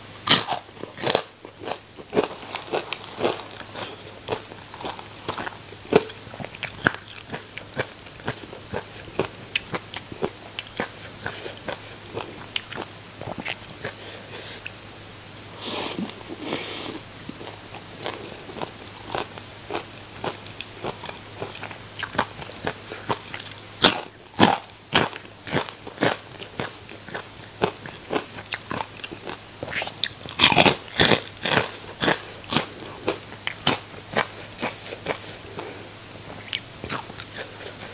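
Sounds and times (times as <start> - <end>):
crunching and chewing crispy food: 0.2 - 14.8, 15.6 - 37.9.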